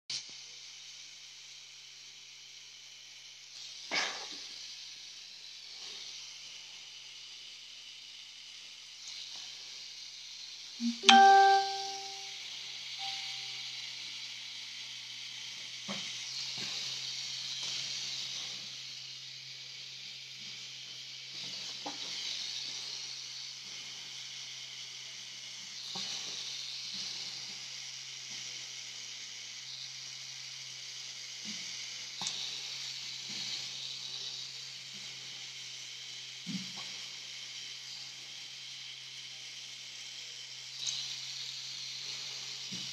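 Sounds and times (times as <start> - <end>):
tattoo machine humming: 0.2 - 42.9.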